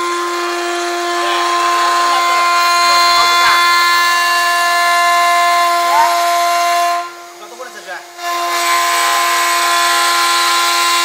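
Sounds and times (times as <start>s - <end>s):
wood lathe machine whine: 0.0s - 7.4s, 8.2s - 11.0s
hiss of wood cutting: 0.0s - 11.0s.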